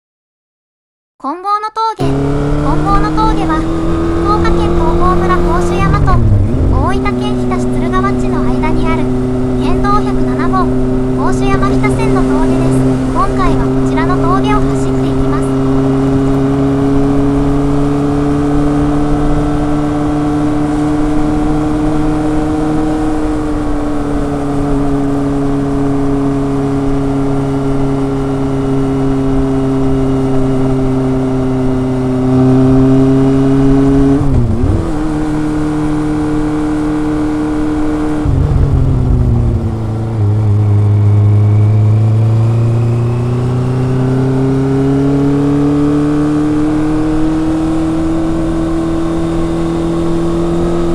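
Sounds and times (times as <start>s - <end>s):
motorcycle engine and exhaust: 2.0s - 50.9s.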